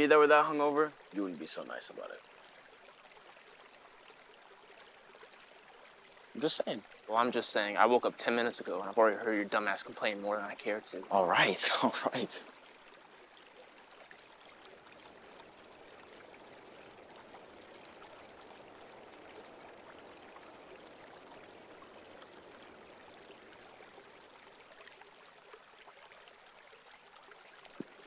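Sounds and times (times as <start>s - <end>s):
faint creek water rushing: 0.0s - 28.0s.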